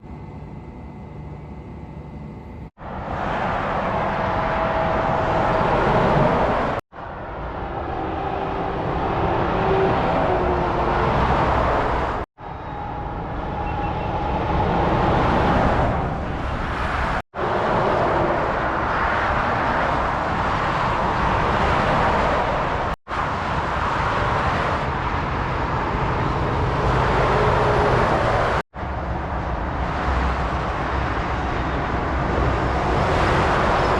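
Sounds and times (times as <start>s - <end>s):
lorries and cars passing at speed: 0.0s - 33.9s.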